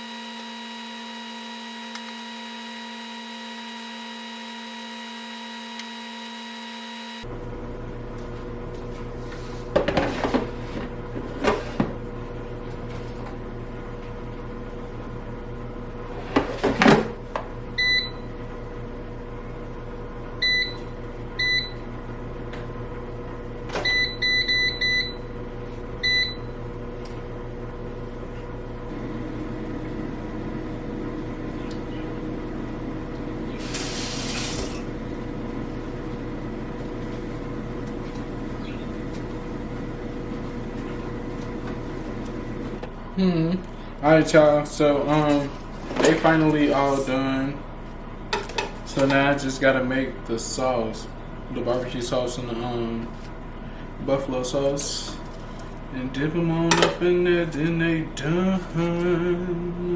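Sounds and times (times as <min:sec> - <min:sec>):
air fryer fan hum: 0:00.0 - 0:59.9.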